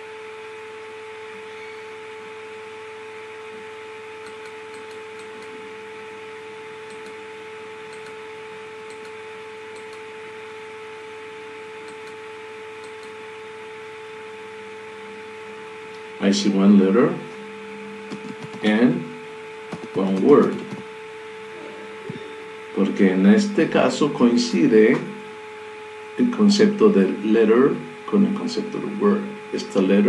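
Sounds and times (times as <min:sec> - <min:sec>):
electrical hum with high whine: 0:00.0 - 0:30.0.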